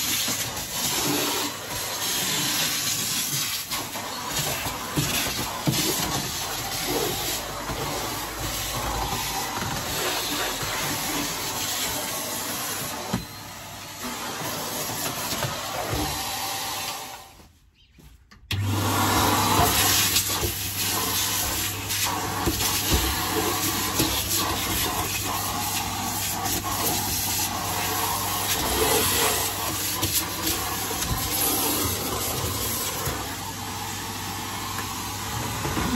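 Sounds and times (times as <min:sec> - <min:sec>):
vacuum cleaner running: 0:00.0 - 0:17.4, 0:18.5 - 0:35.9.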